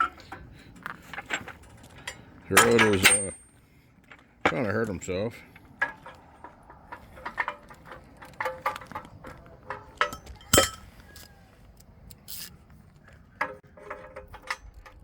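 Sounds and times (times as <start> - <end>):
knocks clinks and scrapes: 0.0 - 15.0.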